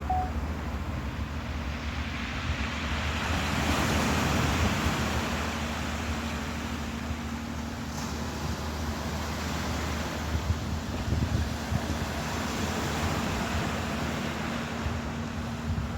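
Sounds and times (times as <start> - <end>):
ocean waves washing: 0.0 - 15.9.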